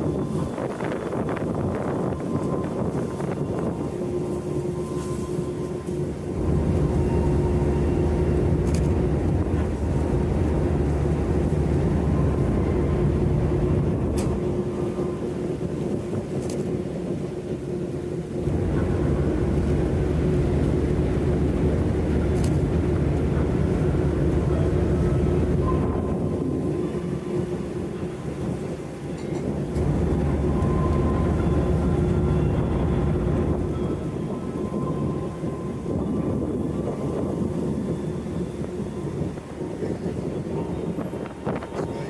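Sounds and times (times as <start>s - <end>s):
ship engine and hull rumble: 0.0s - 42.0s.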